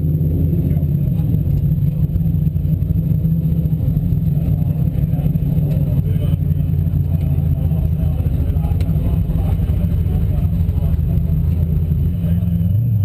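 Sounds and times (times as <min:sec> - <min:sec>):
race car engine droning: 0:00.0 - 0:13.0.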